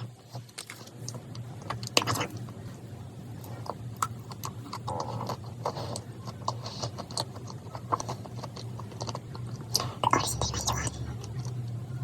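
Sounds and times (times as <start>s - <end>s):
chewing soft sticky food: 0.0s - 12.0s.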